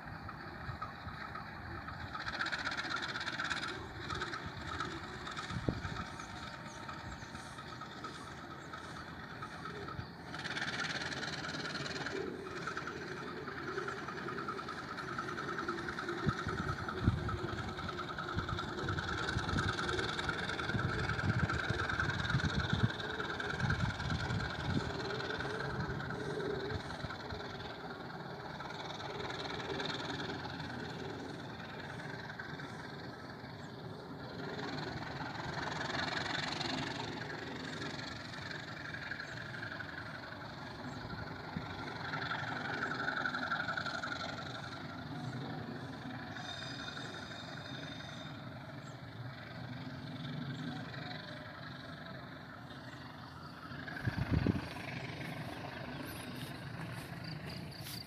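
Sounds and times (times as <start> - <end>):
distant diesel locomotive: 0.0 - 58.0
train wheels rumbling on rail: 0.0 - 58.0.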